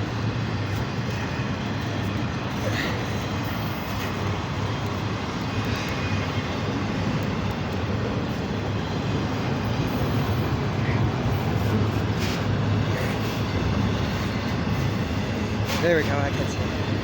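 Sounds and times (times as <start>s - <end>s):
freight train rumbling by: 0.0s - 17.0s.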